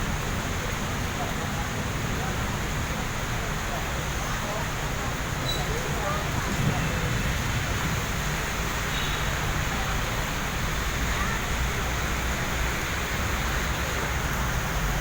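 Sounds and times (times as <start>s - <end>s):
heavy rain hissing: 0.0s - 15.0s
road traffic rumble: 0.0s - 15.0s.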